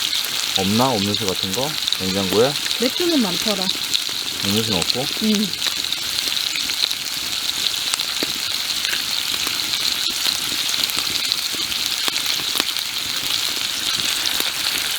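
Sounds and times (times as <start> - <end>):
pork sizzling and popping: 0.0 - 14.9.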